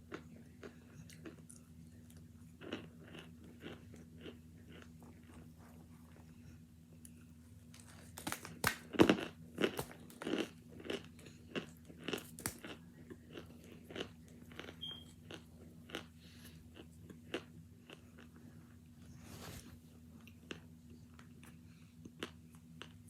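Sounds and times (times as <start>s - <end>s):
crunching and chewing: 0.0s - 18.8s, 20.0s - 23.0s
steady low hum: 0.0s - 23.0s.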